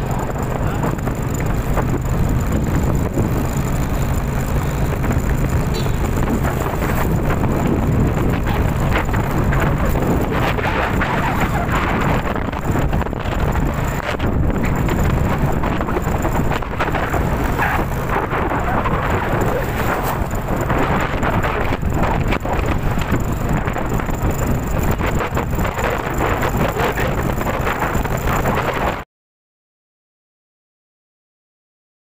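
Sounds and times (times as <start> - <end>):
strong wind rushing: 0.0 - 29.0
wind buffeting microphone: 0.0 - 29.0.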